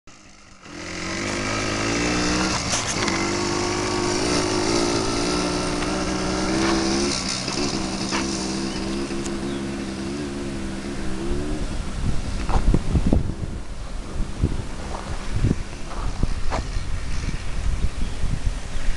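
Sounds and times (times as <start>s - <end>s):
quad bike engine revving: 0.1s - 17.3s
wind buffeting microphone: 0.9s - 18.9s.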